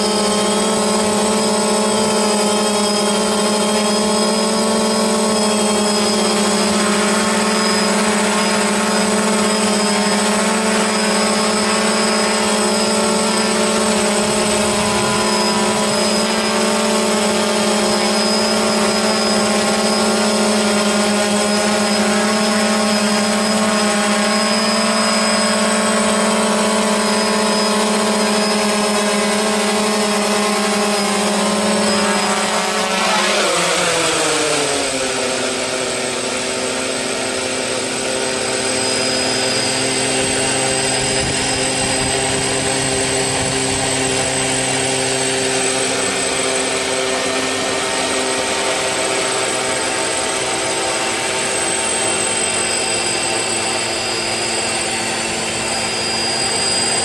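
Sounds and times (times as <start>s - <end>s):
quadcopter motors buzzing: 0.0s - 57.0s.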